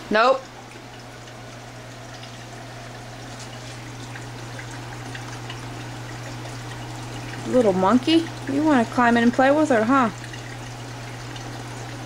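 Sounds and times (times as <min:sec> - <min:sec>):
aquarium water trickling: 0:00.0 - 0:12.0.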